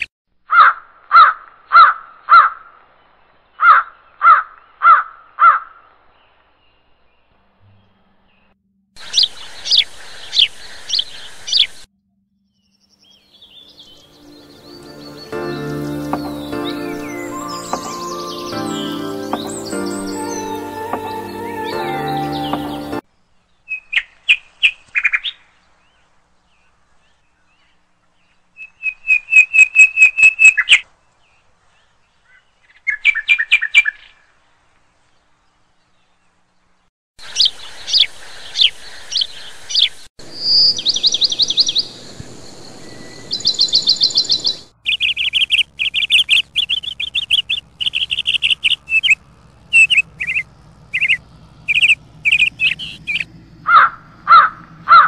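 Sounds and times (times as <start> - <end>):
small birds chirping and trilling: 3.4 - 11.9, 12.5 - 34.2, 34.9 - 55.0.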